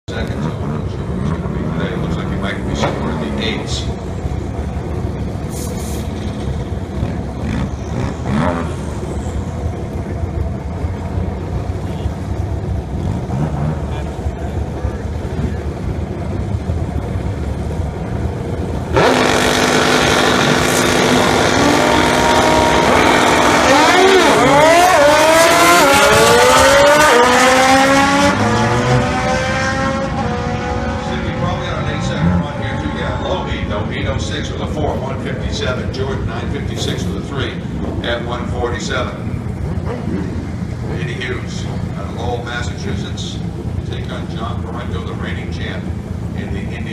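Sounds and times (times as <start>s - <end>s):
drag racing engines rumbling: 0.0s - 46.9s.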